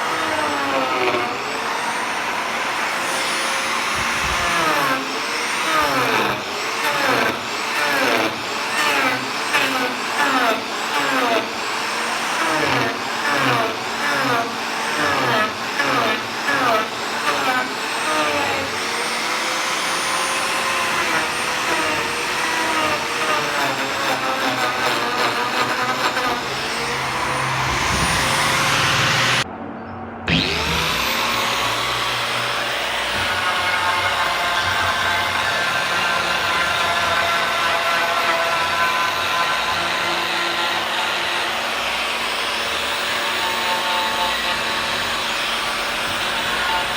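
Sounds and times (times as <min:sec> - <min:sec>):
power tool cutting wood: 0:00.0 - 0:29.5, 0:30.3 - 0:46.9.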